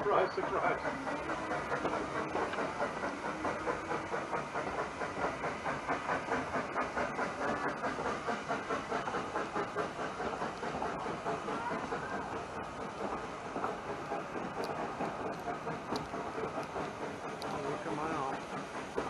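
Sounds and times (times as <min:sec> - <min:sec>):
steam locomotive exhaust beating: 0:00.0 - 0:19.0
wheels running on track: 0:00.0 - 0:19.0.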